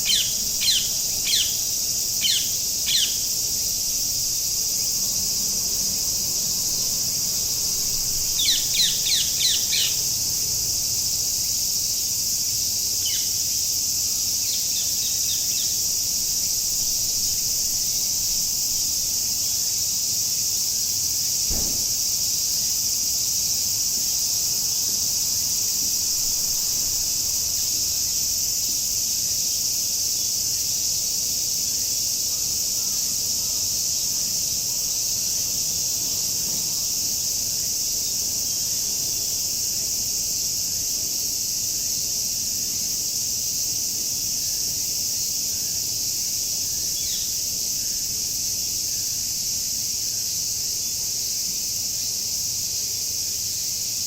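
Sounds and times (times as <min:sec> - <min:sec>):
cicada chorus drone: 0:00.0 - 0:54.0.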